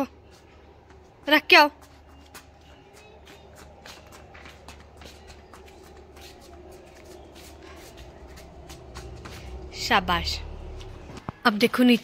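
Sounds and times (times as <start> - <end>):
toddler footsteps on concrete: 0.0 - 12.0.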